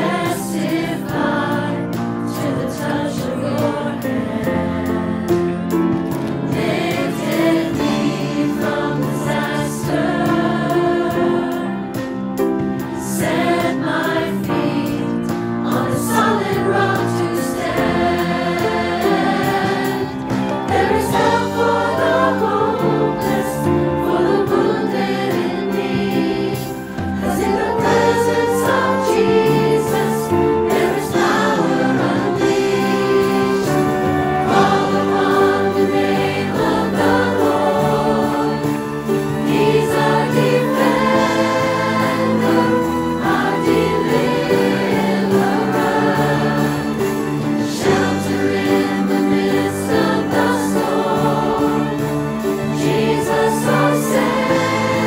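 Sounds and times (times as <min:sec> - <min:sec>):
choir singing a worship song: 0:00.0 - 0:55.0
drums: 0:00.0 - 0:55.0
guitar: 0:00.0 - 0:55.0
piano: 0:00.0 - 0:55.0.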